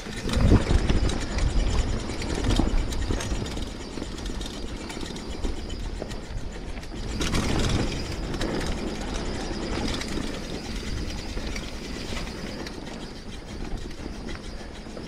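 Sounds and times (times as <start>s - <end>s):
bike rattling over bumps: 0.0s - 15.0s
bike tyres on loose dirt: 0.0s - 15.0s.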